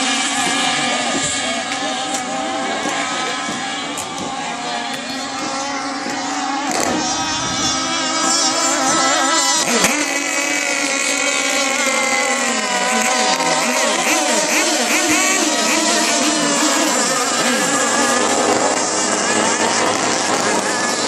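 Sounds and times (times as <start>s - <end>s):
powerboat engine at high revs: 0.0s - 21.0s.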